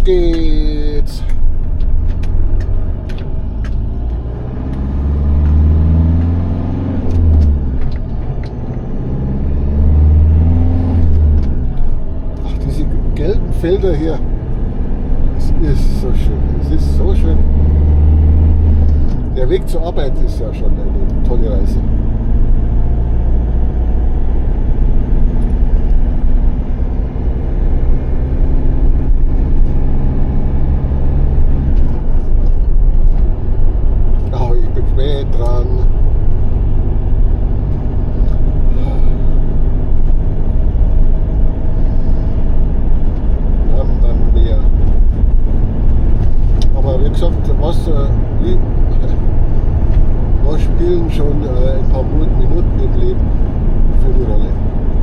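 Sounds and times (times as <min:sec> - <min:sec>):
motorhome engine accelerating: 0:00.0 - 0:55.0
road noise: 0:00.0 - 0:55.0.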